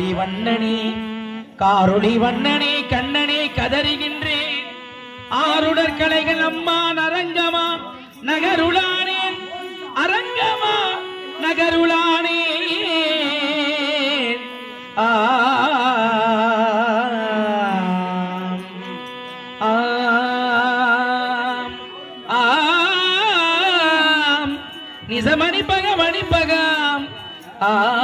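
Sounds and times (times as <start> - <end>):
person singing with heavy vibrato: 0.0 - 28.0.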